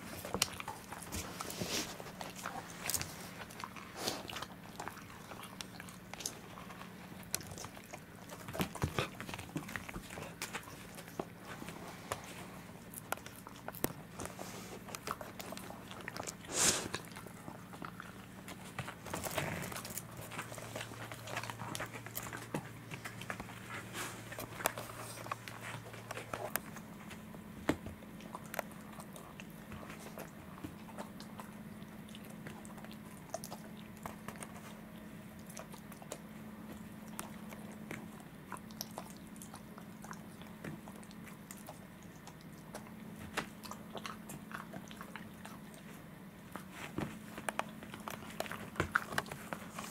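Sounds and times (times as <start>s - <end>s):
dog chewing rawhide: 0.0s - 49.9s.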